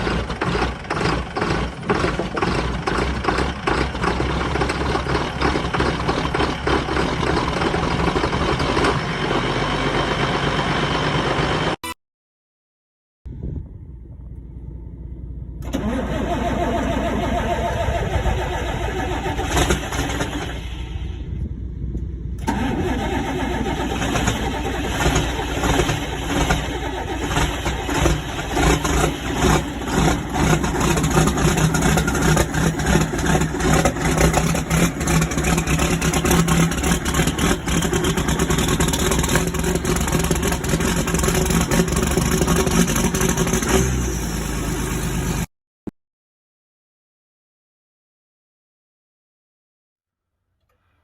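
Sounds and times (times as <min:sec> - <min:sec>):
diesel tractor engine running: 0:00.0 - 0:11.8, 0:13.3 - 0:45.5.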